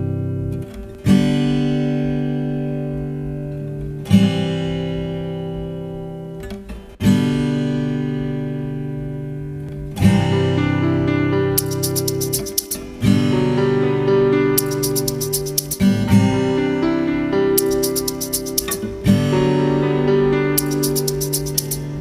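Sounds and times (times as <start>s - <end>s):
slow acoustic guitar chords: 0.0s - 22.0s.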